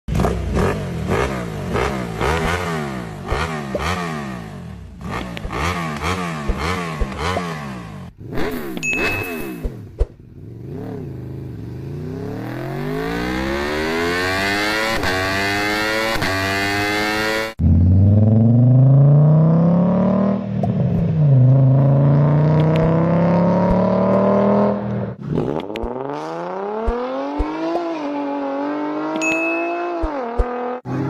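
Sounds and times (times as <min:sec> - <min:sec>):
car engine revving: 0:00.1 - 0:31.0.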